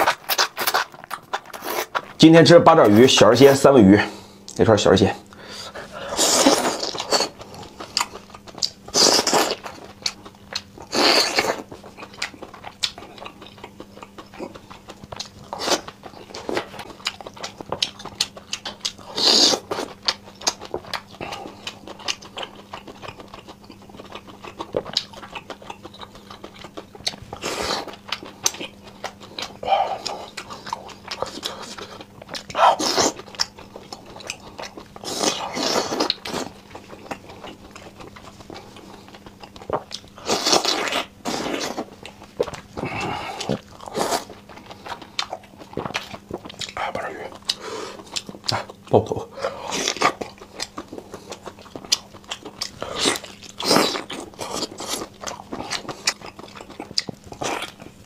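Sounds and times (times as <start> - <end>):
wet chewing: 0.0 - 3.3, 5.3 - 58.0
faint low hum: 0.0 - 58.0.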